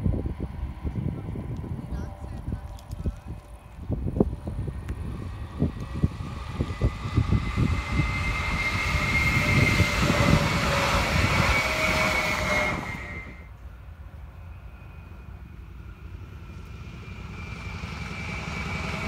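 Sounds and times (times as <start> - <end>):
high whine: 0.0 - 19.0
train passing at speed: 0.0 - 19.0.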